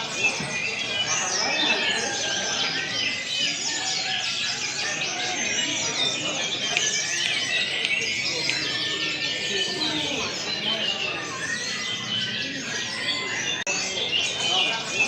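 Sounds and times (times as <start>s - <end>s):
caged songbirds singing: 0.0s - 15.0s
murmur of voices: 0.0s - 15.0s.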